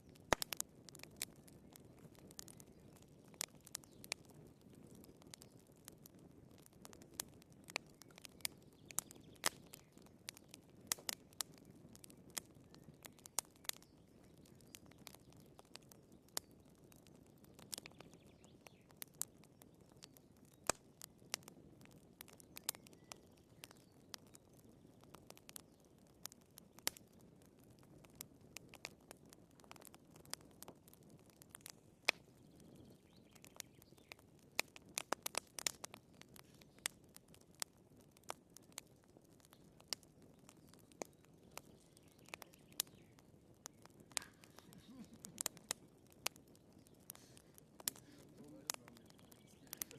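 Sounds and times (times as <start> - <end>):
firewood crackling in fireplace: 0.0 - 49.9.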